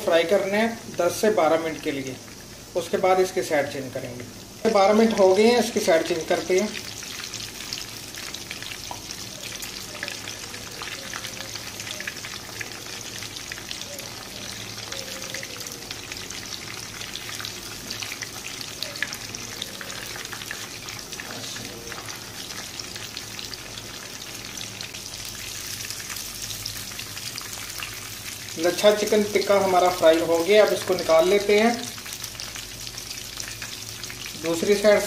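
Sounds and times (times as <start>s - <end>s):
chicken sizzling in oil: 0.0s - 35.0s.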